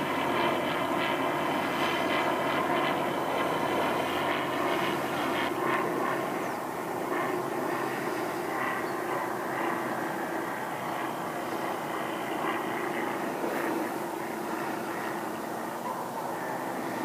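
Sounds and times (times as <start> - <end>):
distant propeller aircraft drone: 0.0 - 17.0.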